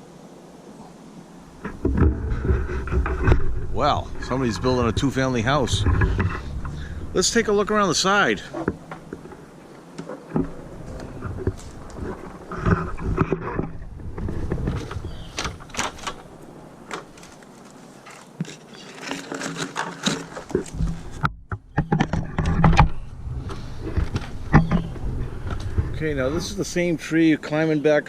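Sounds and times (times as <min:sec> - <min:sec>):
footsteps and handling noises: 0:01.6 - 0:26.8.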